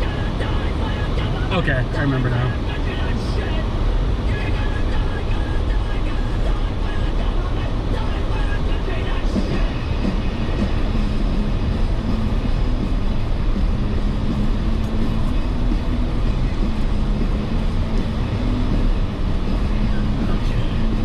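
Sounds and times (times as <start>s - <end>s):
off-road vehicle engine from inside cab: 0.0s - 21.0s.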